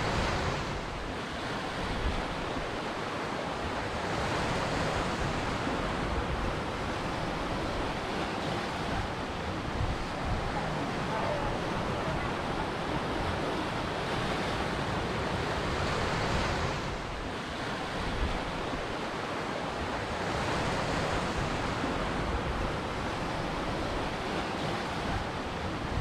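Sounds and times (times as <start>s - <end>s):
waves breaking ashore: 0.0s - 26.0s.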